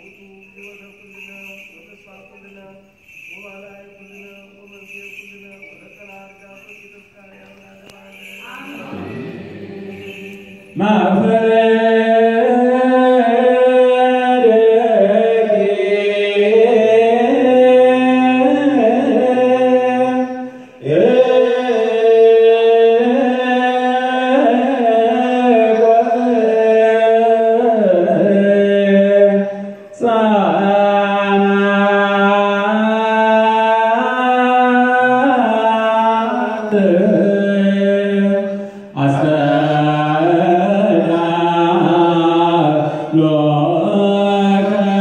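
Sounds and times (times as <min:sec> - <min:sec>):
liturgical chant with held notes: 0:00.0 - 0:45.0.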